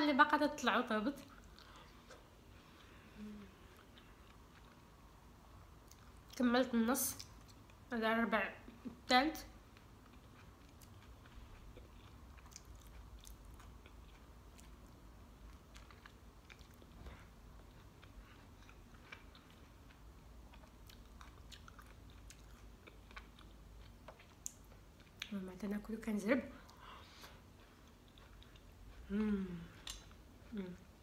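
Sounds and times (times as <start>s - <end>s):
person chewing food: 1.2s - 6.4s, 9.6s - 25.3s, 26.6s - 31.0s.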